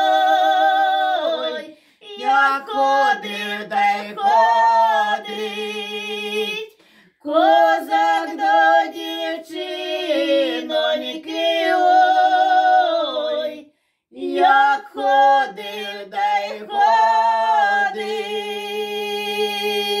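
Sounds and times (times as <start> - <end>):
women singing in harmony: 0.0 - 20.0.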